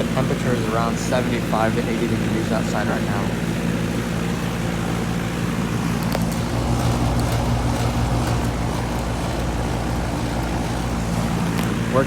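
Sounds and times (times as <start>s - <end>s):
compressor hum: 0.0s - 12.0s
condenser fan whoosh: 0.0s - 12.0s.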